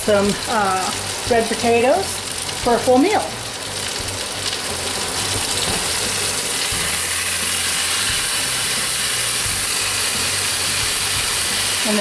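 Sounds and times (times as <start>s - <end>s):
butter sizzling in a pan: 0.0s - 12.0s.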